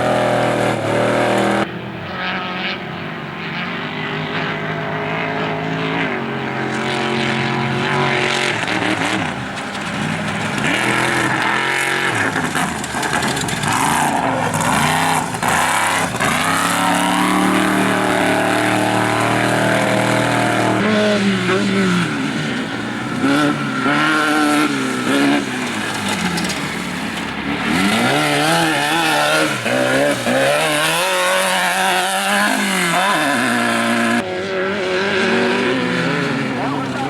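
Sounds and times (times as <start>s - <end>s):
race vehicle engines revving: 0.0s - 37.0s.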